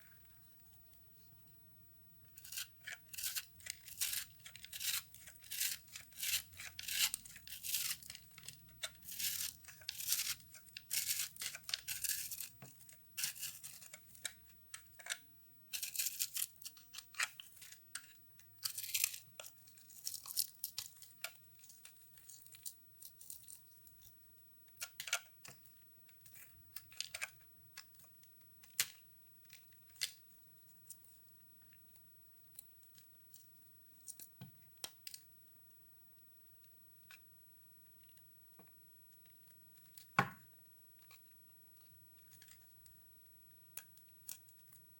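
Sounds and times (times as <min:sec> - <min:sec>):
dry soap crackling and crunching: 0:00.0 - 0:01.5, 0:02.2 - 0:35.4, 0:36.6 - 0:44.9.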